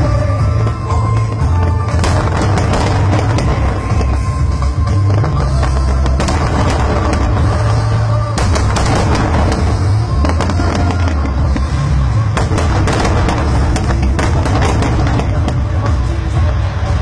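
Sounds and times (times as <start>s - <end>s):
fireworks bangs and crackles: 0.0s - 17.0s
loud music with deep notes: 0.0s - 17.0s.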